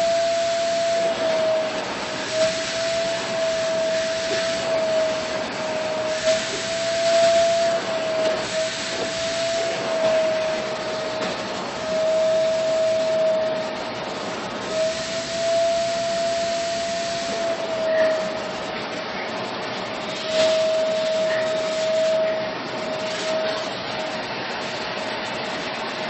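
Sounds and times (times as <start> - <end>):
rushing hiss of air: 0.0 - 26.0
vacuum cleaner whine: 0.0 - 26.0.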